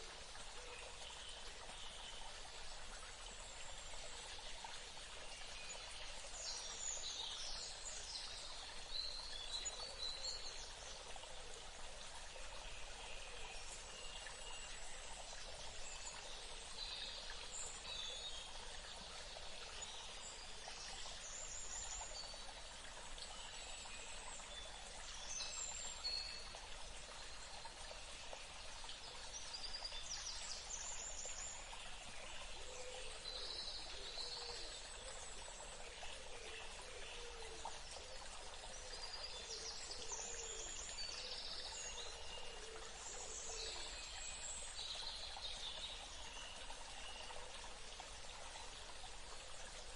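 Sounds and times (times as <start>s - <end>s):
stream running water: 0.0s - 49.9s.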